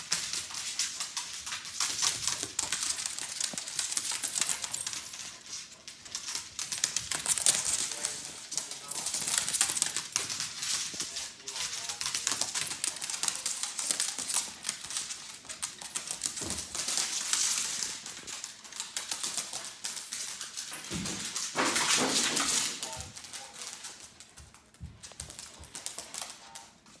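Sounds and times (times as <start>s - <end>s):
dog claws clicking on floor: 0.0s - 27.0s.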